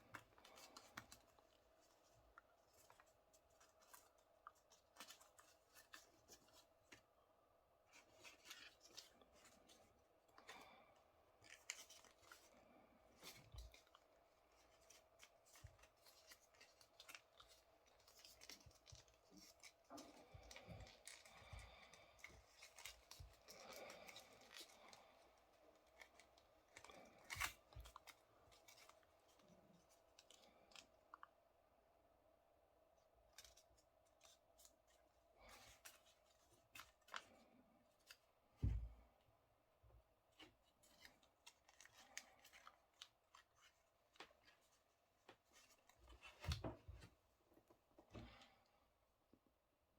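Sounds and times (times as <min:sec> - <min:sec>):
paper rustling and crinkling: 0:00.0 - 0:07.2, 0:07.8 - 0:31.3, 0:33.3 - 0:38.9, 0:40.3 - 0:47.3.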